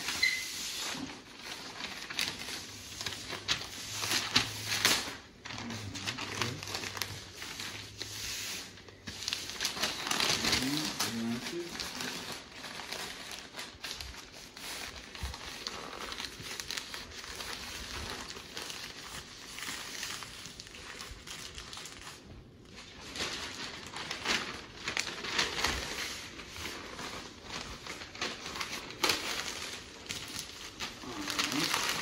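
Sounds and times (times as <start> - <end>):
newspaper rustling and crinkling: 0.0 - 32.0.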